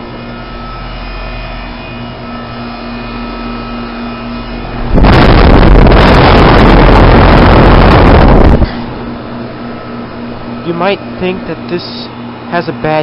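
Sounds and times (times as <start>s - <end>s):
heat pump hum: 0.0s - 13.0s
loud rush of air noise: 2.1s - 13.0s.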